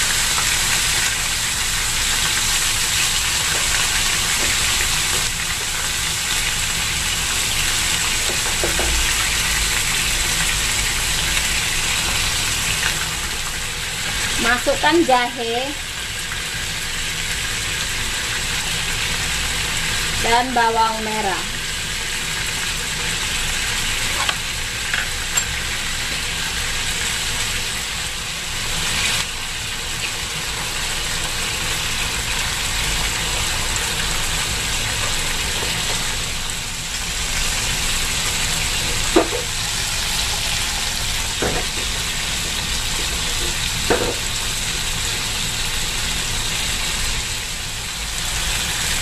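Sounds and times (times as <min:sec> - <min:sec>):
chicken wings sizzling in oil: 0:00.0 - 0:49.0.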